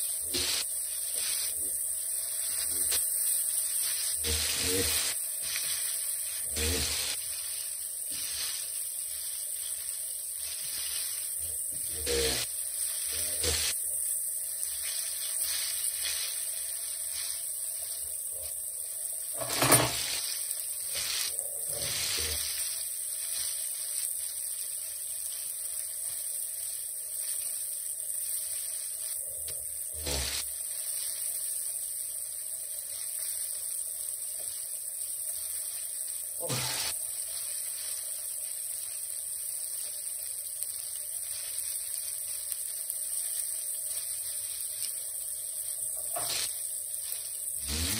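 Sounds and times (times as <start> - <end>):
fish sizzling in a frying pan: 0.0 - 47.9.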